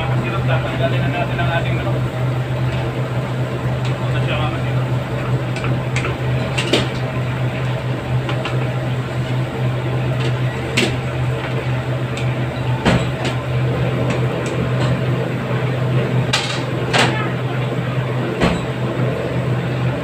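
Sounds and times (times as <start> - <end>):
kitchen equipment hum: 0.0 - 20.0.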